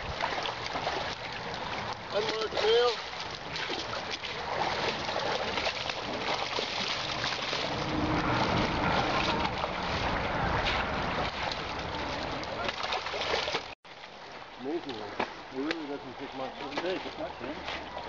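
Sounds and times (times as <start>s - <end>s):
creek water running: 0.0s - 18.0s.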